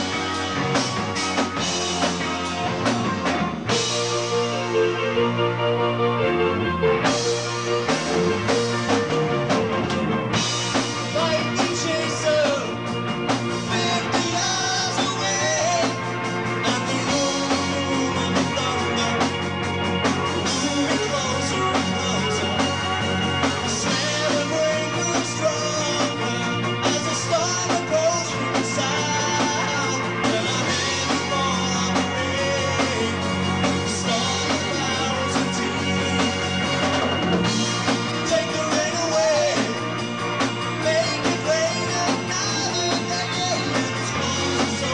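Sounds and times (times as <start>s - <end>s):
bass line: 0.0s - 44.9s
drum kit: 0.0s - 44.9s
electric guitar: 0.0s - 44.9s
keyboards: 0.0s - 44.9s.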